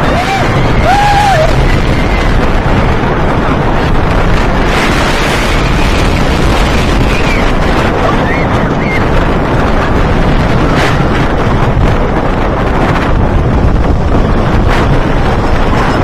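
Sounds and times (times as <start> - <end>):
roller coaster on wooden track: 0.0 - 16.0
wind on microphone: 0.0 - 16.0.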